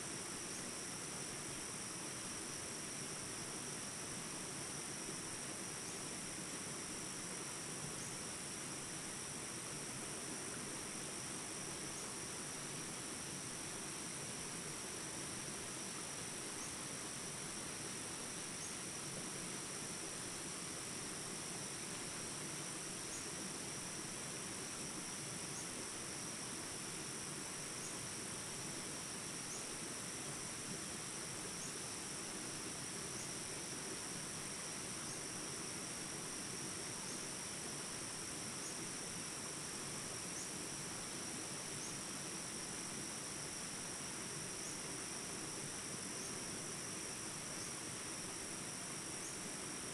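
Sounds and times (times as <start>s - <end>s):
insects chorus: 0.0s - 49.9s.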